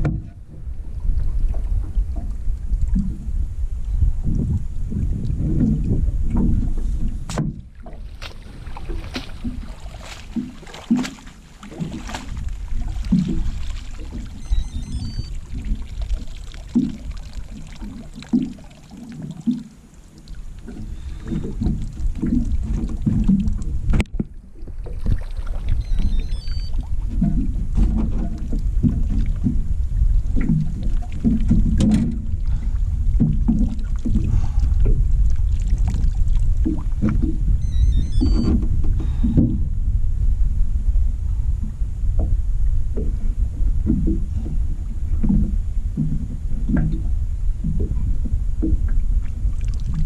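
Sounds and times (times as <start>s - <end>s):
water slapping boat hull: 0.0s - 50.0s
wind rumble on microphone: 0.0s - 50.0s.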